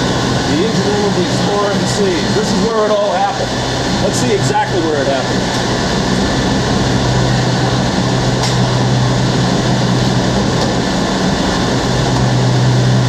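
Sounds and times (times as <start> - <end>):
diesel generators humming: 0.0 - 13.0
machinery and ventilation roar: 0.0 - 13.0.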